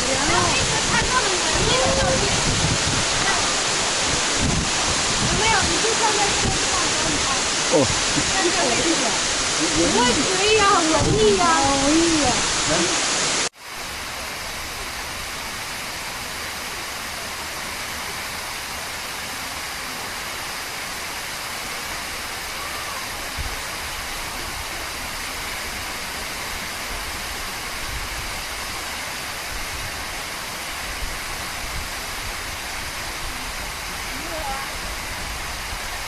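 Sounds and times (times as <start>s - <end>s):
rush of a large waterfall: 0.0s - 36.0s.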